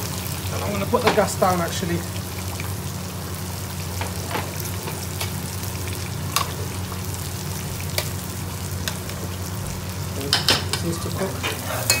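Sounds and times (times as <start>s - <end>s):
chicken sizzling in a pot: 0.0s - 12.0s.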